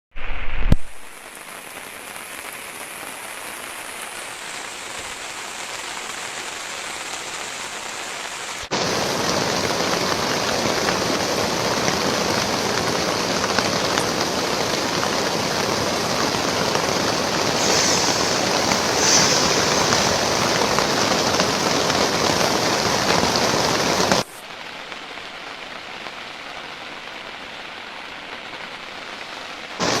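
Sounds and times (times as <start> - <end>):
heavy rain falling: 0.5 - 30.0.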